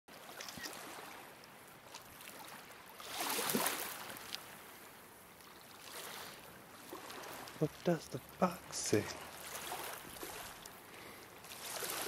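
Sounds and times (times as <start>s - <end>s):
waves lapping on pebbles: 0.1s - 12.0s.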